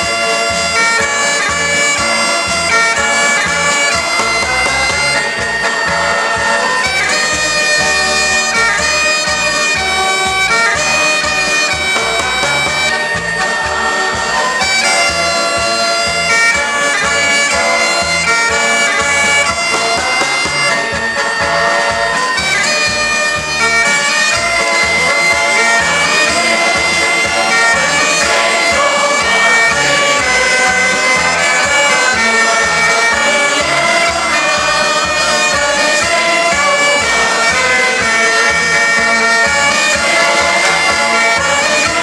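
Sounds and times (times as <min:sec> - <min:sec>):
showband music with steady beat: 0:00.0 - 0:42.0.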